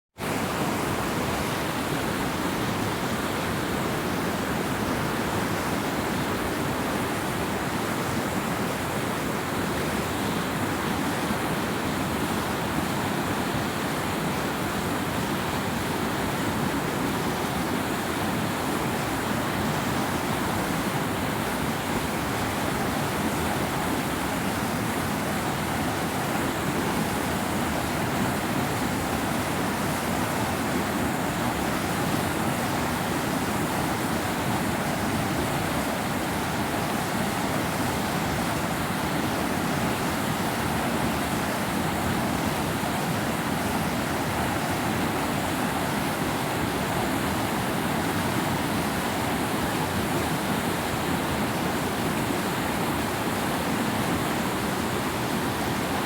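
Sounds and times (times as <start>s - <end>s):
river water rushing: 0.2s - 56.0s.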